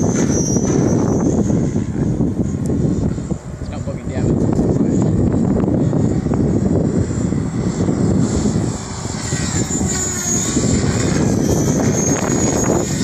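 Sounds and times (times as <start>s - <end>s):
electric motor high whine: 0.0s - 13.0s
helicopter rotor blades rushing: 0.0s - 13.0s.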